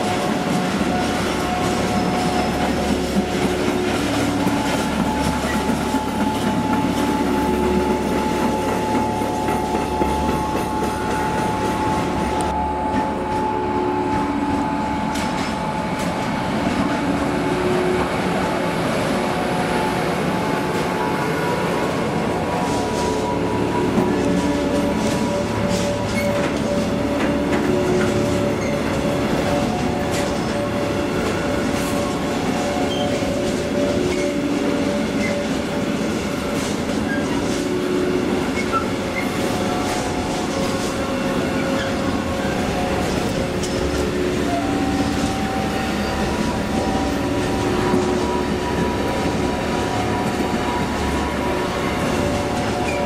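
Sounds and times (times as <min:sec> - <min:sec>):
freight wagons rumbling on rails: 0:00.0 - 0:53.0.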